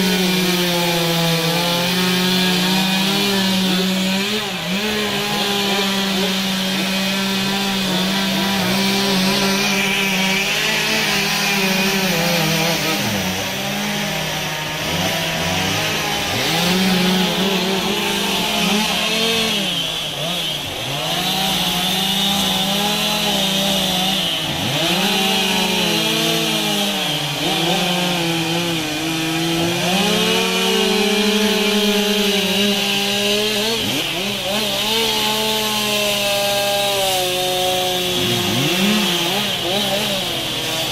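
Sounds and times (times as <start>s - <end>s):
chainsaw carving wood: 0.0s - 40.9s.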